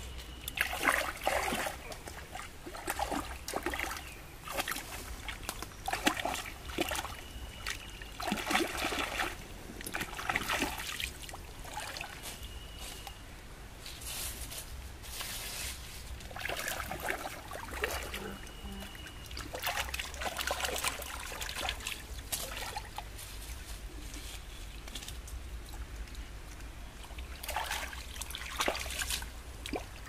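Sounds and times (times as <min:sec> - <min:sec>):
water splashing and sloshing: 0:00.0 - 0:13.2, 0:13.9 - 0:30.0
water trickling: 0:00.0 - 0:13.2, 0:16.2 - 0:23.2, 0:24.7 - 0:30.0.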